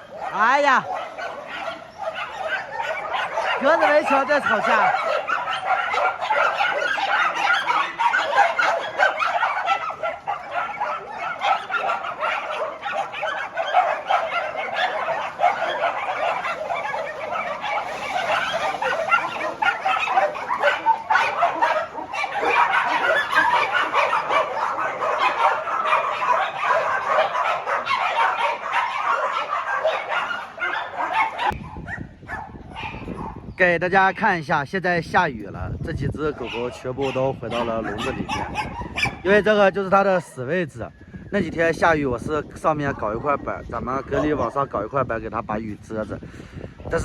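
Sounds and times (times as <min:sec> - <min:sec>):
dogs barking and yapping: 0:00.0 - 0:47.0.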